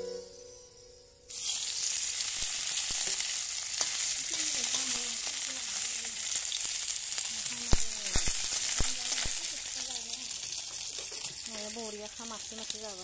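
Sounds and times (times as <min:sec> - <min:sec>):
food sizzling in hot oil: 0:01.3 - 0:13.0.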